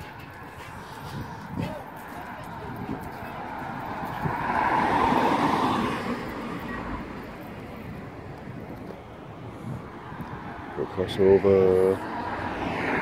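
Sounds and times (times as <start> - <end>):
car passing by: 0.0 - 13.0.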